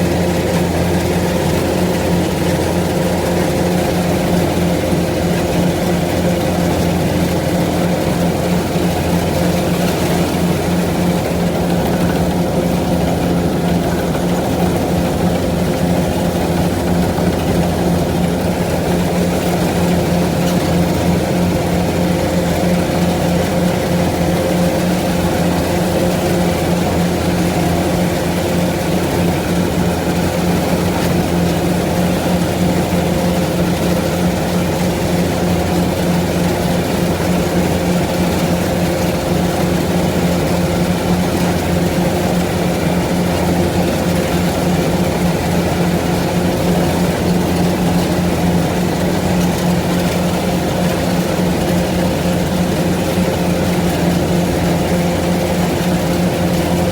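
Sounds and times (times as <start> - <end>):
farm machinery engine droning: 0.0 - 56.9.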